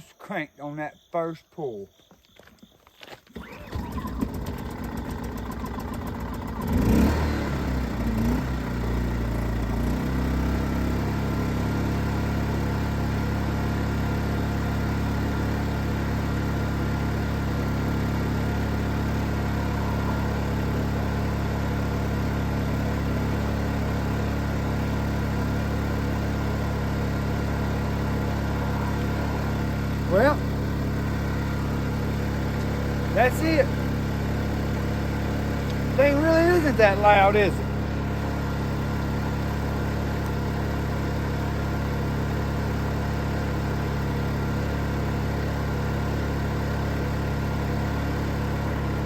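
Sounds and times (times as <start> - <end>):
small generator engine running: 3.3 - 49.0.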